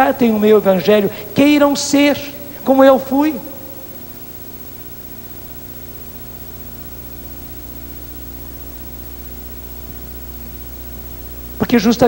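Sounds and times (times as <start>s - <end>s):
low electrical hum: 0.0s - 12.0s
steady hiss: 0.0s - 12.0s.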